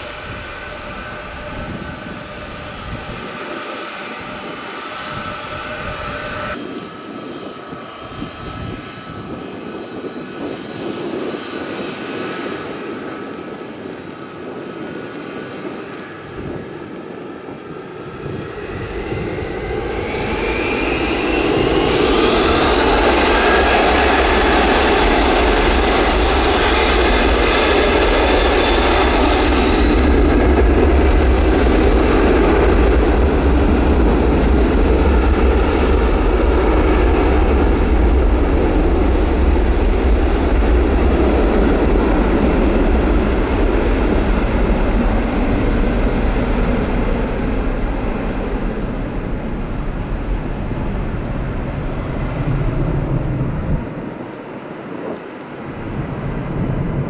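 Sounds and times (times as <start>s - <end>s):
aircraft engines spooling up: 0.0s - 57.0s.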